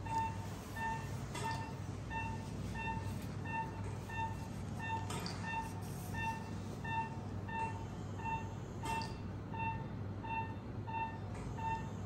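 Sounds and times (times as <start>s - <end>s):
patient monitor beeping: 0.0s - 12.0s.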